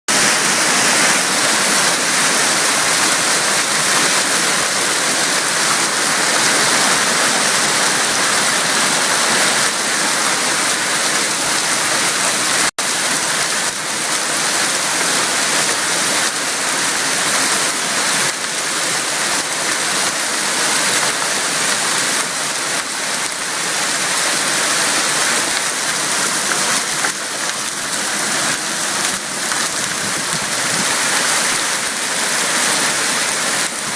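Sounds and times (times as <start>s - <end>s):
hail and heavy rain hitting ground: 0.1s - 33.9s.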